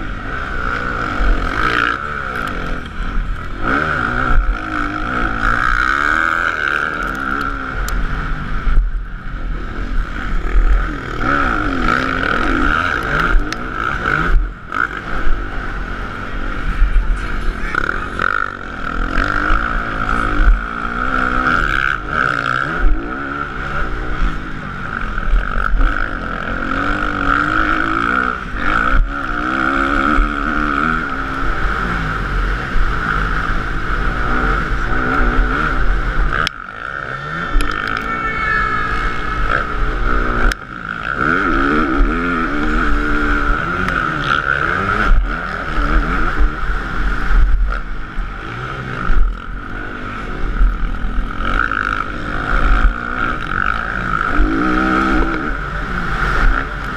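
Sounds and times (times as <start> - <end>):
motocross engine revving: 0.0 - 56.9.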